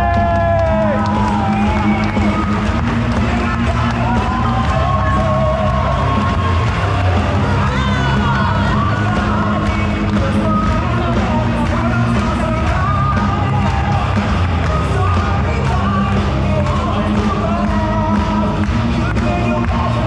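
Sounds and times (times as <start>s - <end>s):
heavy bass line: 0.0s - 20.0s
person singing: 0.0s - 20.0s.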